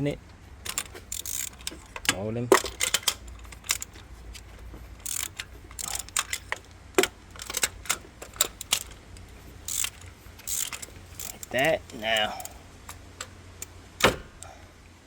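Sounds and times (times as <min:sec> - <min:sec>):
hand ratchet clicking: 0:00.6 - 0:14.5.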